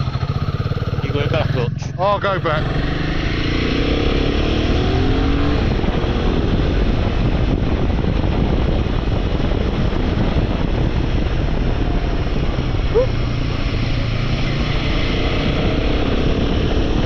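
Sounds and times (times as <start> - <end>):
motorcycle engine accelerating: 0.0 - 17.0
rush of noise: 0.0 - 17.0.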